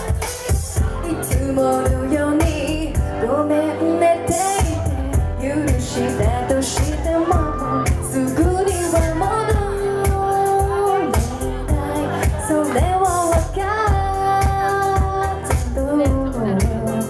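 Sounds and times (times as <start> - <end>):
pop backing track: 0.0 - 17.0
woman singing into microphone: 0.0 - 17.0.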